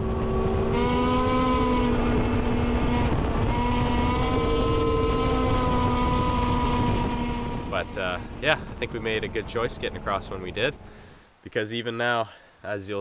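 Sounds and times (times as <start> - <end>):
rush of snowmobile track: 0.0 - 11.2
snowmobile engine drone: 0.0 - 11.2.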